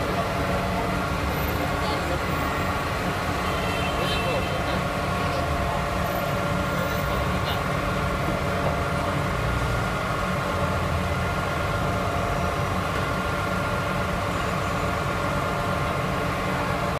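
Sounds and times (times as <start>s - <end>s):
bus engine running: 0.0s - 16.9s.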